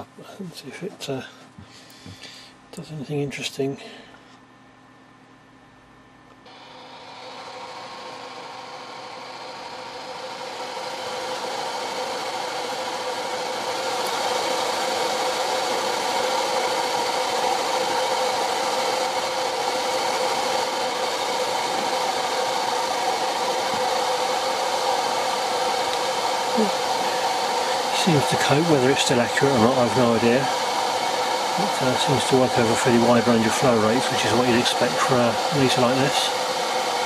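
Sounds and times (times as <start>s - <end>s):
electric blower fan whine: 0.0s - 37.0s.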